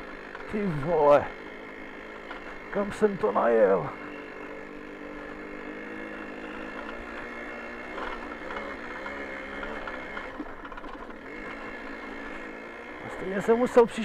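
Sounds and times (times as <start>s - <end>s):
moped engine running under load: 0.0s - 14.0s.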